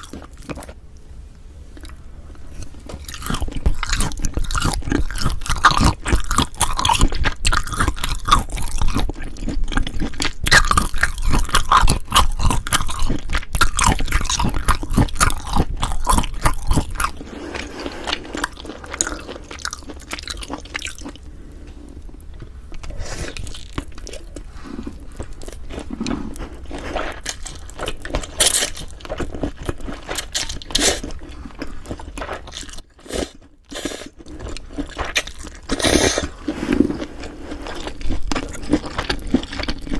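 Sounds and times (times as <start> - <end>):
chewing and crunching: 0.0 - 0.8, 1.8 - 39.9.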